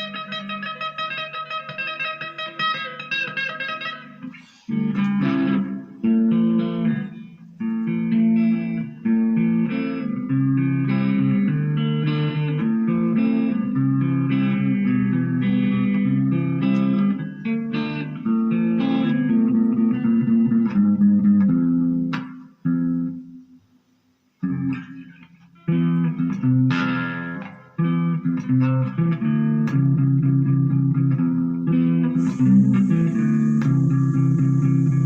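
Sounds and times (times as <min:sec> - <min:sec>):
electric guitar through amp: 0:00.0 - 0:23.3, 0:24.4 - 0:35.0
faint high hiss: 0:00.0 - 0:35.0.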